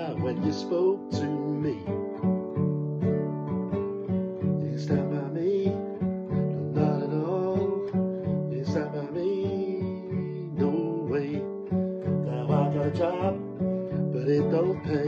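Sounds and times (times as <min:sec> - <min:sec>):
man singing wordlessly: 0:00.0 - 0:02.3, 0:04.4 - 0:15.0
acoustic guitar strumming: 0:00.0 - 0:15.0.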